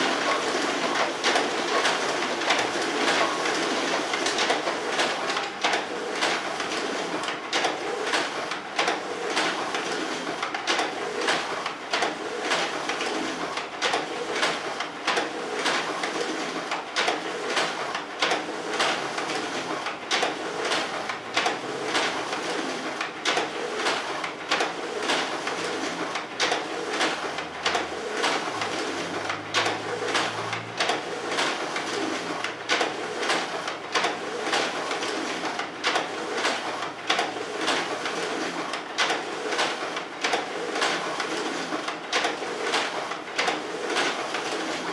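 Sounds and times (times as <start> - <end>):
copier feeder whirring: 0.0 - 44.9.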